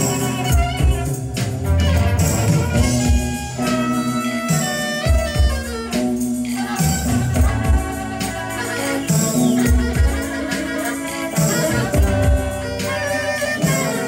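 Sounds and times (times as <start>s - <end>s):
low bass notes: 0.0s - 13.7s
cymbals: 0.0s - 14.0s
live band playing: 0.0s - 14.0s.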